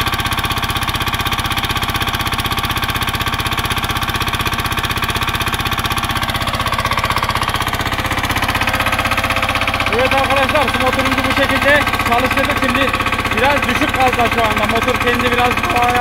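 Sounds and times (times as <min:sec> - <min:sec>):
diesel engine chugging: 0:00.0 - 0:16.0.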